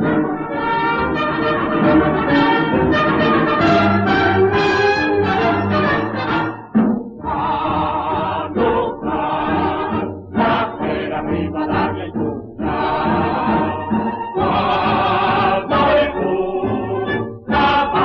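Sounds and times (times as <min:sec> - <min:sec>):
chorus singing a march: 0:00.0 - 0:18.0
orchestra playing: 0:00.0 - 0:18.0.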